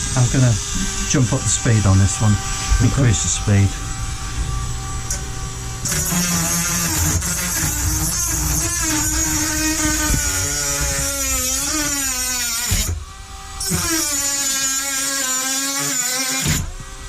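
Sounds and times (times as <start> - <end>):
rotary tool grinding metal: 0.0 - 17.0.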